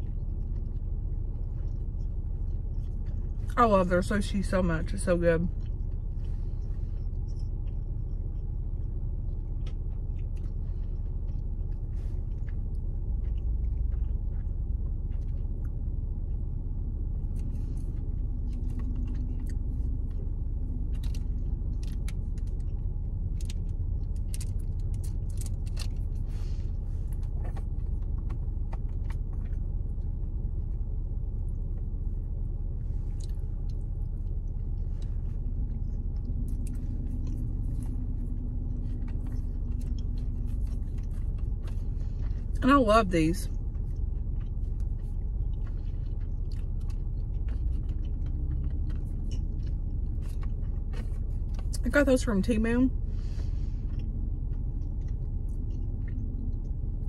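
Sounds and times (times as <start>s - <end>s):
person chewing food: 0.0s - 3.6s, 5.5s - 42.6s, 43.5s - 51.8s, 52.9s - 57.0s
low rumble inside car: 0.0s - 57.0s.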